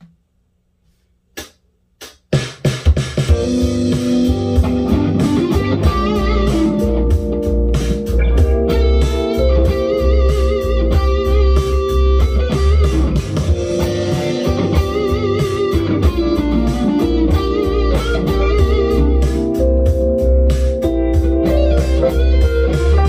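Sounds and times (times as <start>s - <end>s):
funk backing track with drums: 1.4s - 23.0s
electric guitar lead lines: 3.3s - 23.0s.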